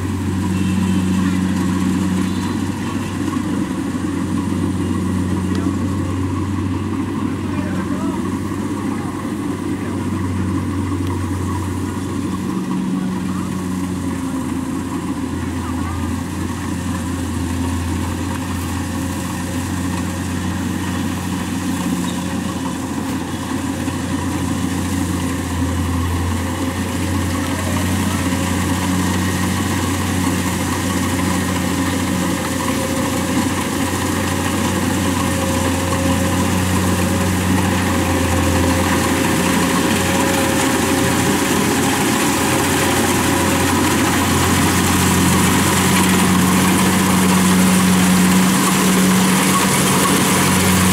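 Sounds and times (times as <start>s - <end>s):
combine harvester diesel engine: 0.0s - 50.9s.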